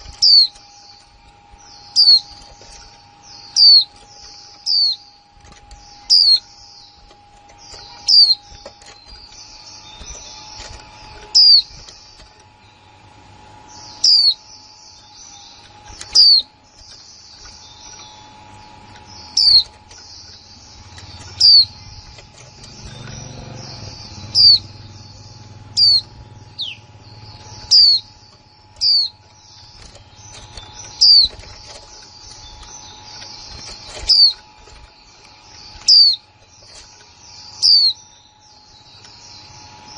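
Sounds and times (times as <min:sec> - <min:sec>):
high bird twittering: 0:00.0 - 0:39.9.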